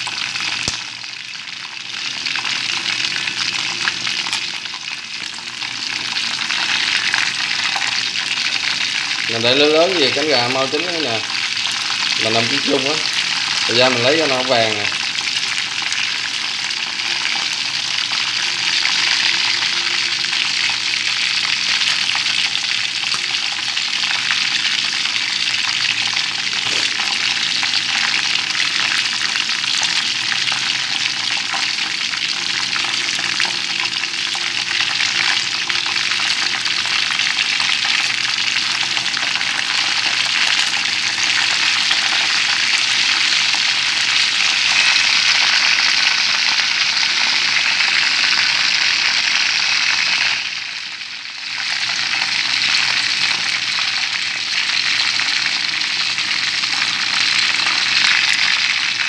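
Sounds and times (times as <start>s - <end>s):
chicken wings sizzling in oil: 0.0s - 59.0s.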